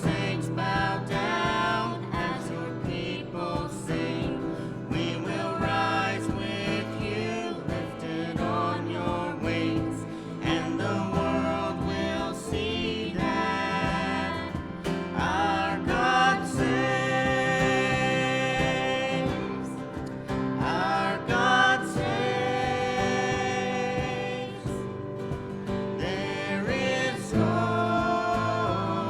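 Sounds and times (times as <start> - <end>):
country gospel guitar music: 0.0 - 29.0.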